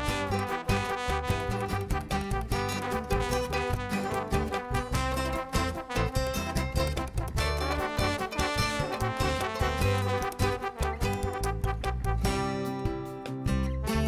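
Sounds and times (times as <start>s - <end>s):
upbeat swing music with brass: 0.0s - 14.0s.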